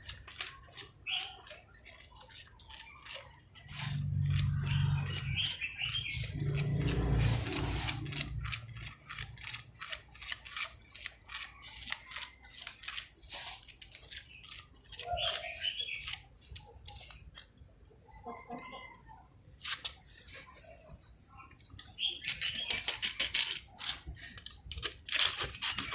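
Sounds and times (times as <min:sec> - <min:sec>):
toy scraping on hard surface: 0:00.0 - 0:17.6, 0:18.4 - 0:25.9
toys clicking and tapping: 0:00.0 - 0:25.9.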